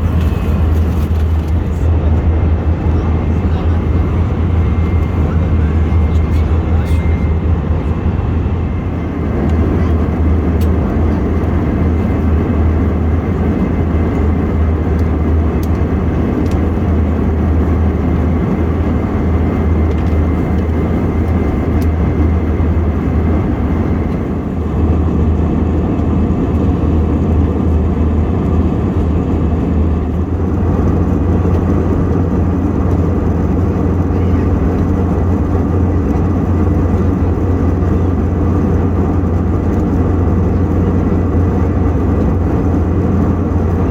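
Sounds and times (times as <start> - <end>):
airliner cabin engine roar: 0.0 - 43.9.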